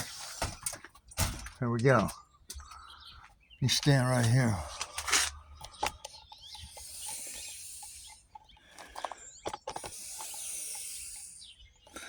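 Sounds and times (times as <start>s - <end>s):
faint bird chirps: 2.2s - 12.0s.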